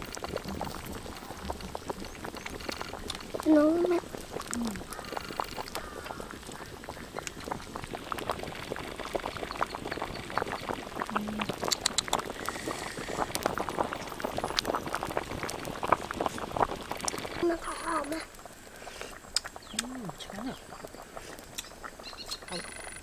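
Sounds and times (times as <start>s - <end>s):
soup boiling in a wok: 0.0s - 23.0s.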